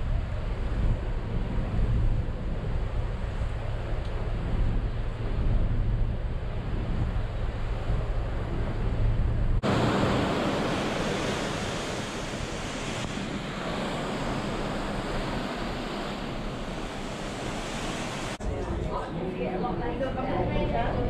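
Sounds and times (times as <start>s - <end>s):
sea water rushing: 0.0s - 18.9s
wind rumble on microphone: 0.0s - 21.0s.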